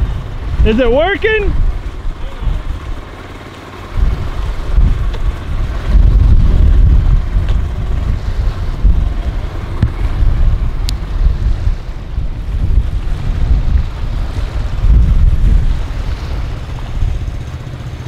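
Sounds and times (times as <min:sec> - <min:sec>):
faint boat motor running: 0:00.0 - 0:18.0
wind buffeting microphone: 0:00.0 - 0:18.0.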